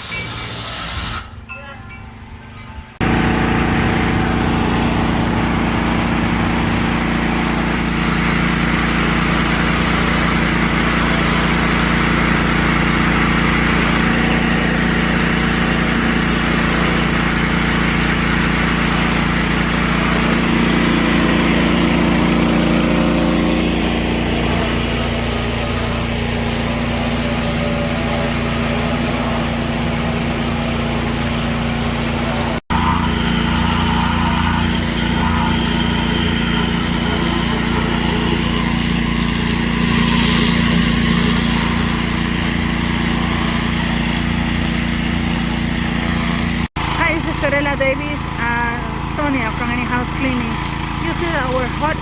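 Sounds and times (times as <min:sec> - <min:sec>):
pressure washer engine running: 0:00.0 - 0:52.0.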